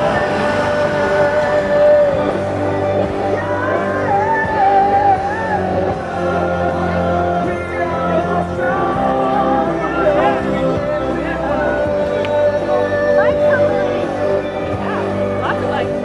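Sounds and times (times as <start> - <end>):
held instrumental chords: 0.0 - 16.0
person singing: 0.0 - 16.0.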